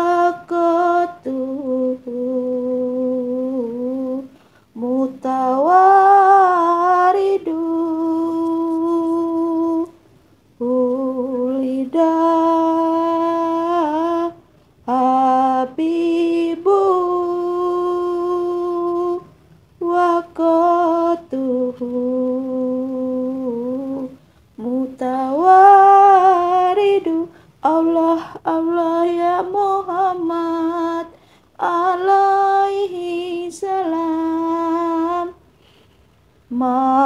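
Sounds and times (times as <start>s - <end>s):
woman singing devotional chant: 0.0s - 37.0s.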